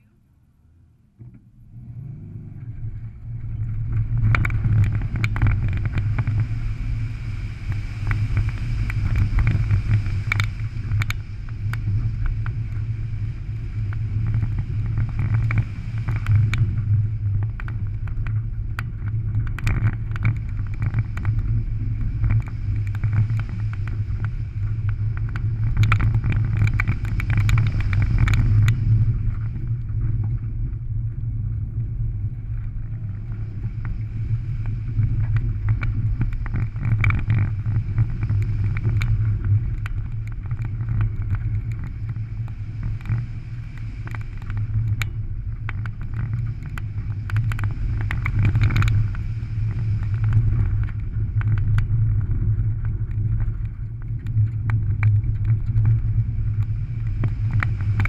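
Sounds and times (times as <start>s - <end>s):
car engine rumbling under load: 0.0s - 58.0s.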